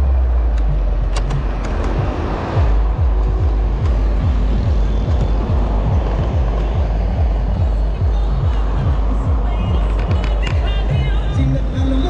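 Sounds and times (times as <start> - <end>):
motorcycle engine and road noise: 0.0 - 12.0
wind rumble on microphone: 0.0 - 12.0.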